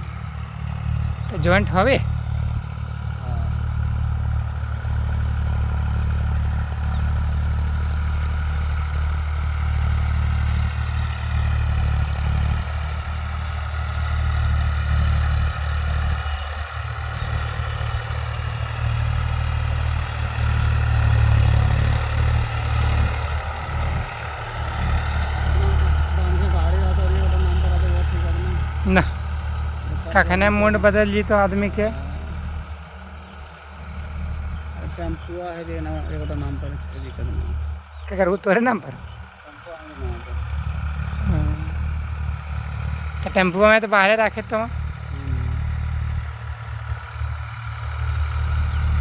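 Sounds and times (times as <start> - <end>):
tractor engine idling low: 0.0 - 49.0.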